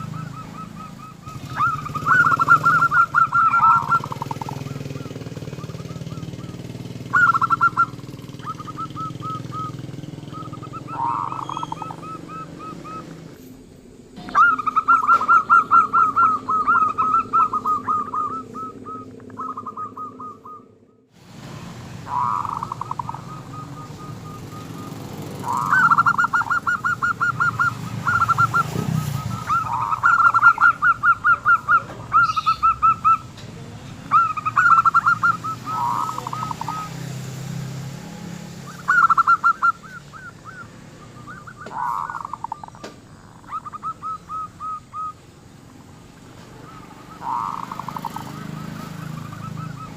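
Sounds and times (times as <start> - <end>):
dove cooing: 0.0 - 21.0, 22.0 - 49.9.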